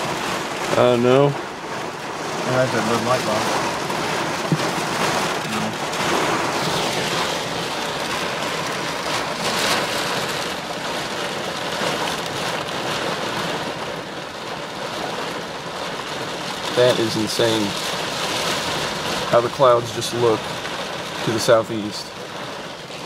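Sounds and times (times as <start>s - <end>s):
heavy rain on car roof: 0.0s - 23.0s.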